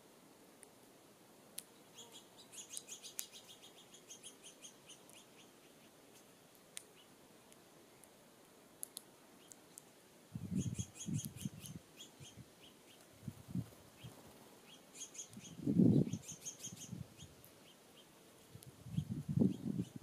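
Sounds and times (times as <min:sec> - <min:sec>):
small songbirds chirping: 0:01.5 - 0:20.0.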